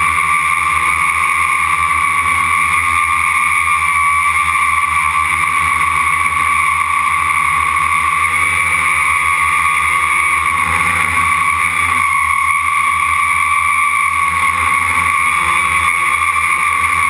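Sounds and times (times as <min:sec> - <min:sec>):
drone motors high whine: 0:00.0 - 0:17.0.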